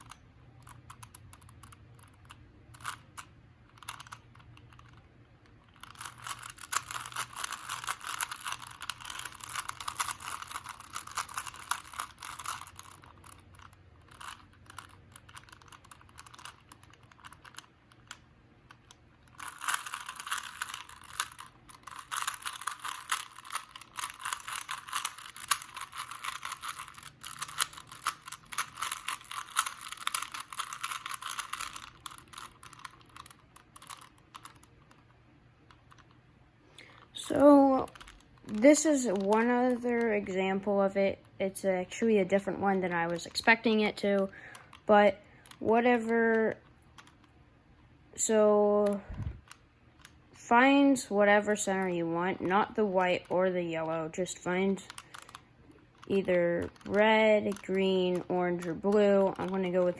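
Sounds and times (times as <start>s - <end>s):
plastic puzzle cube clicking: 0.0s - 36.2s, 36.8s - 39.8s, 42.9s - 45.9s, 46.6s - 47.4s, 52.9s - 59.9s.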